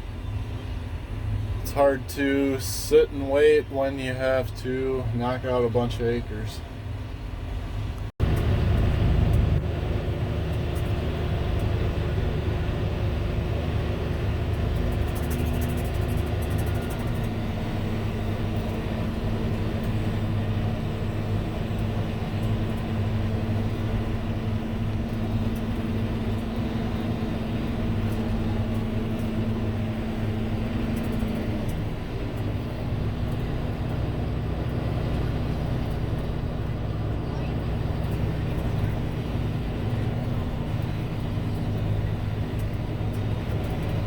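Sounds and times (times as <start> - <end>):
heavy machinery engine running: 0.0 - 44.0.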